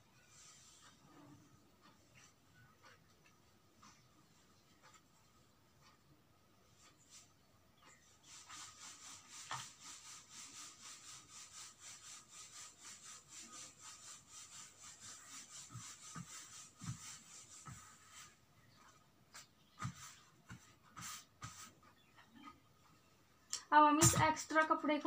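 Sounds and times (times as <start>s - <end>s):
hands rubbing fabric: 0.2s - 5.4s, 6.7s - 22.1s.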